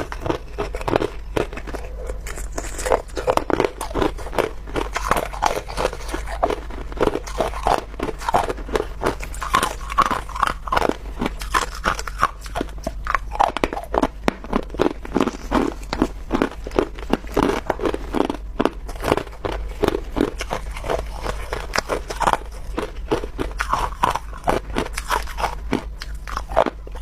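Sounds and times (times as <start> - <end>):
person crunching ice: 0.0 - 27.0.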